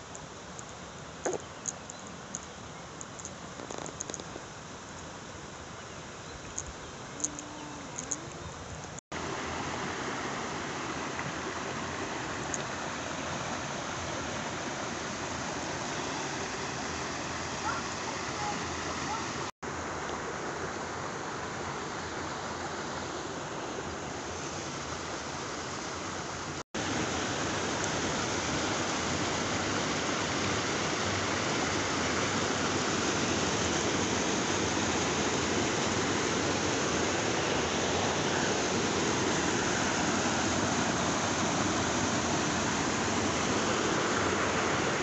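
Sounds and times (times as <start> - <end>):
river water rushing over rocks: 7.0 - 45.0.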